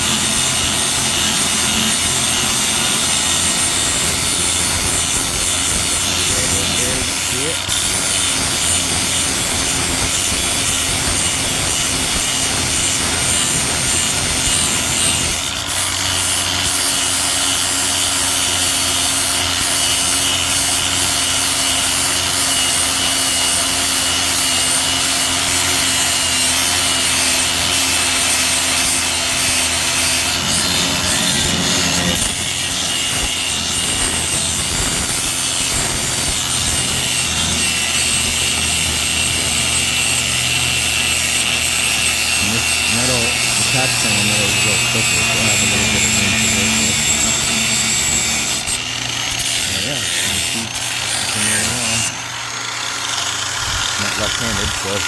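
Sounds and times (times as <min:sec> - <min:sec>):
grinder grinding metal: 0:00.0 - 0:55.0.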